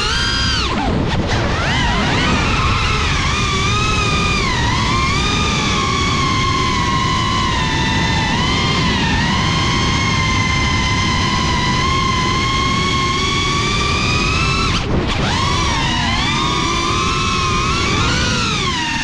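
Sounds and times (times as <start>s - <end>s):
quadcopter motors whining: 0.0s - 19.0s
wind rumble: 0.0s - 19.0s.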